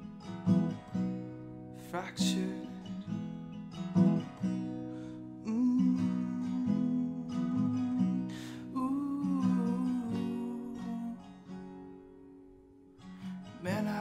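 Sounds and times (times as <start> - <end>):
acoustic guitar strummed and picked: 0.0 - 14.0.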